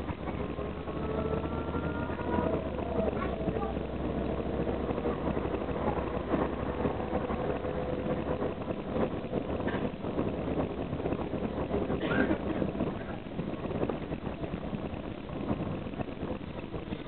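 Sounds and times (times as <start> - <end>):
bus body rattling: 0.0 - 17.0
bus diesel engine humming: 0.0 - 17.0
road noise: 0.0 - 17.0.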